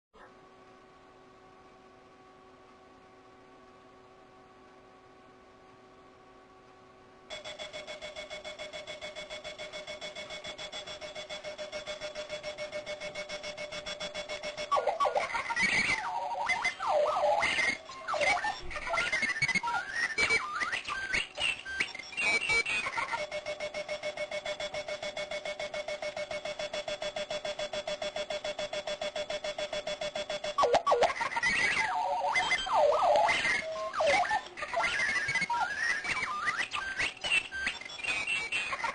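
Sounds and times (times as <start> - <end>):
faint hum: 0.2 - 38.9
alarm clock rapid beeping: 7.3 - 38.9.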